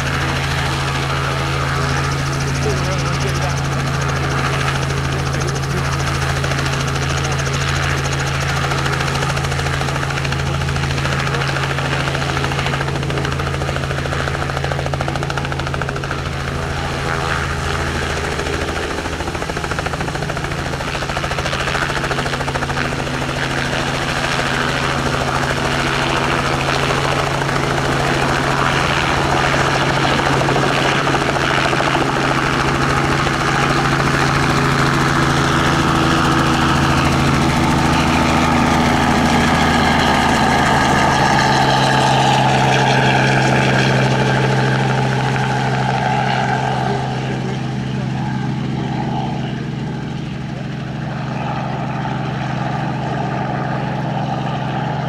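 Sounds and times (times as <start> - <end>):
helicopter engine and rotors: 0.0 - 55.0.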